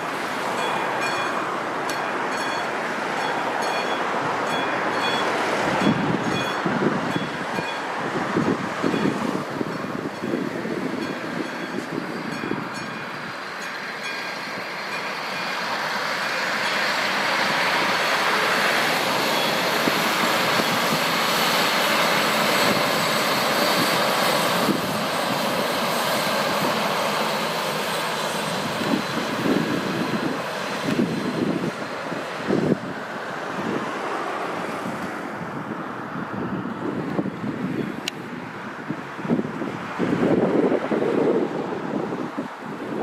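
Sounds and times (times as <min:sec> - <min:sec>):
diesel railcar passing: 0:00.0 - 0:43.0
wind buffeting microphone: 0:04.0 - 0:14.6, 0:15.2 - 0:43.0.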